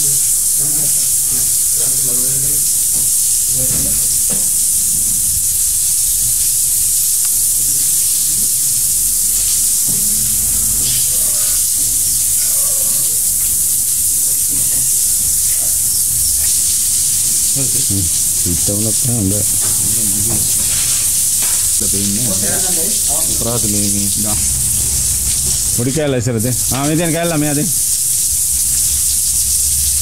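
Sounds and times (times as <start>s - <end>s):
hose spraying water: 0.0s - 30.0s.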